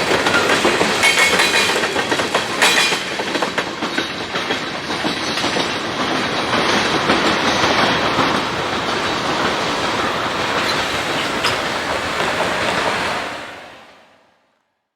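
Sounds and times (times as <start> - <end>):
wheels clicking over rail joints: 0.0 - 13.2
freight train rolling past: 0.0 - 14.6.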